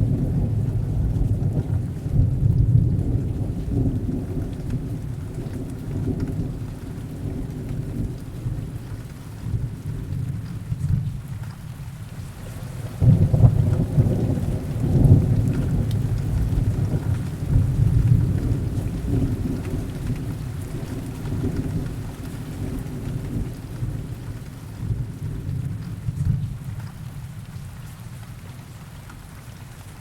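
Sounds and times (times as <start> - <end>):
thunder rumbling: 0.0 - 27.5
heavy rain hiss: 0.0 - 30.0.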